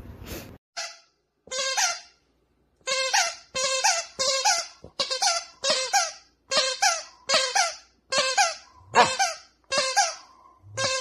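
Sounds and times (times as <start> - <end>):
dog toy squeaker squeaking: 0.8 - 2.2, 2.8 - 11.0.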